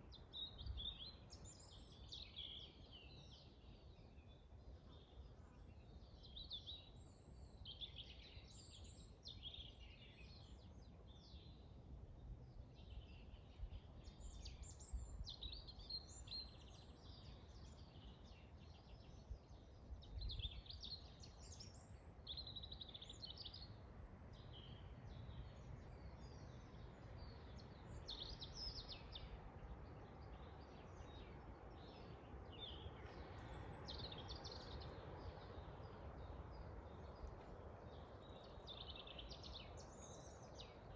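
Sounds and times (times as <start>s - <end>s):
forest birds chirping: 0.0s - 40.9s.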